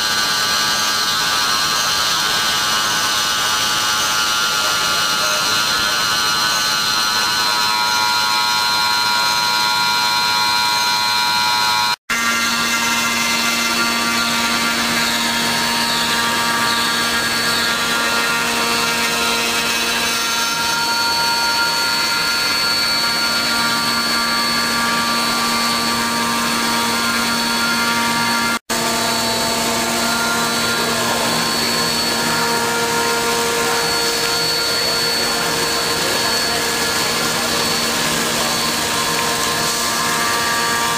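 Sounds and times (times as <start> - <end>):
machine cutting noise: 0.0 - 40.9
milling machine spindle whine: 0.0 - 40.9.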